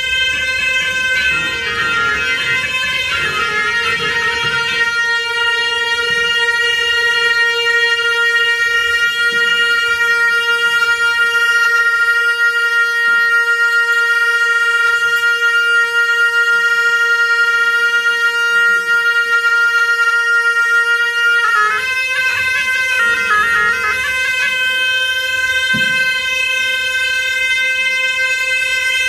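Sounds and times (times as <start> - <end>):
double-reed oboes holding a note: 0.0 - 29.0.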